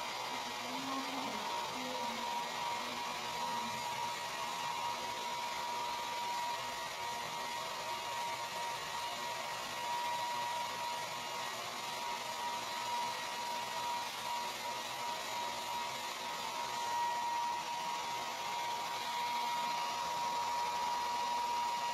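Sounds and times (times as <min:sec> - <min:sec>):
hair dryer running: 0:00.0 - 0:21.9.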